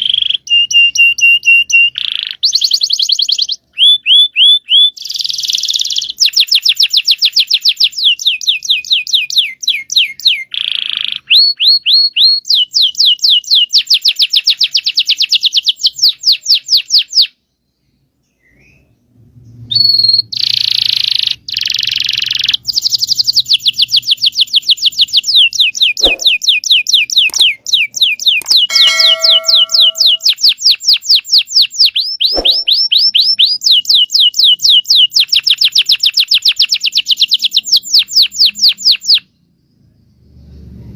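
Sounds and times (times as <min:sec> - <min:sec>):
canary singing trills: 0:00.0 - 0:39.5.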